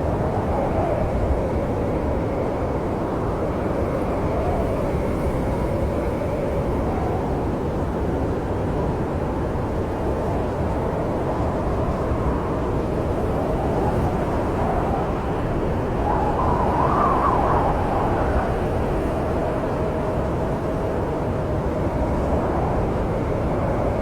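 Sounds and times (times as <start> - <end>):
snowstorm wind howling: 0.0 - 24.0.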